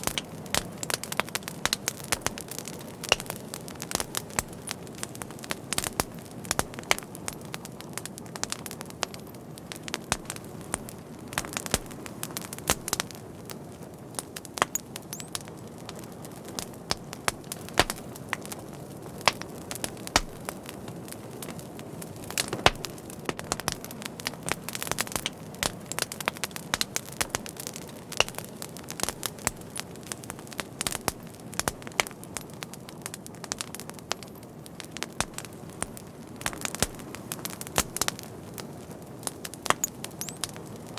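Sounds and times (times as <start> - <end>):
low hiss of burning: 0.0 - 40.9
wood fire crackling: 0.0 - 40.9.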